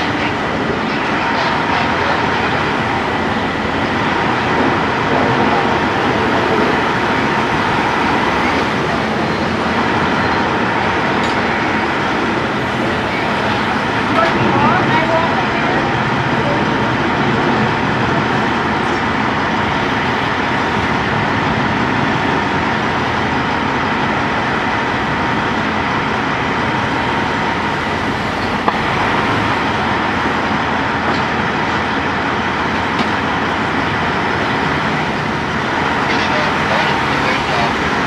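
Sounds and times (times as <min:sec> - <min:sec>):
cars passing: 0:00.0 - 0:38.0
road traffic: 0:00.0 - 0:38.0.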